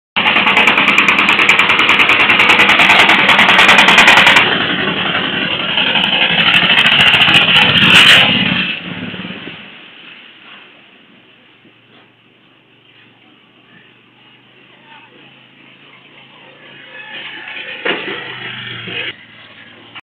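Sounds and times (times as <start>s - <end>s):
tricycle engine pulsing: 0.2s - 20.0s.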